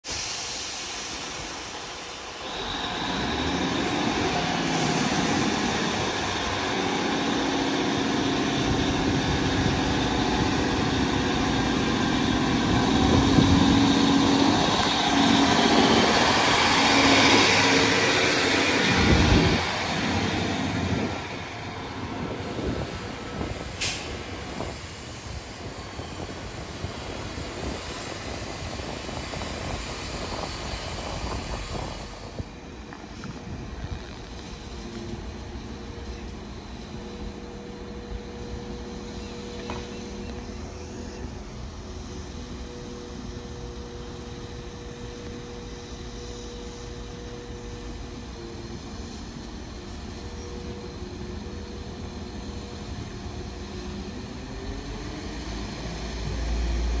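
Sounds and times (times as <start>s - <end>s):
diesel railcar engine: 0.0s - 57.0s.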